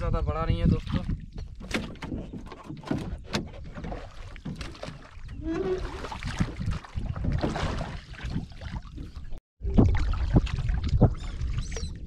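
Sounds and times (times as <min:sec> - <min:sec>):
water splashing and lapping: 0:00.6 - 0:12.0.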